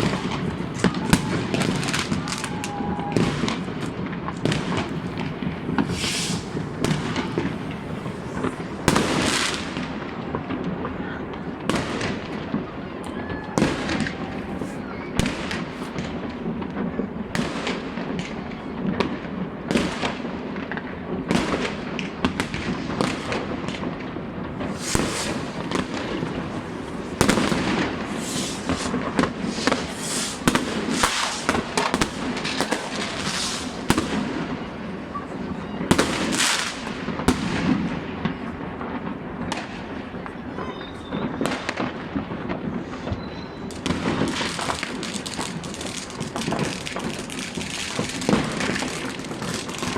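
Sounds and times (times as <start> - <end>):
fireworks and firecrackers: 0.0 - 49.9.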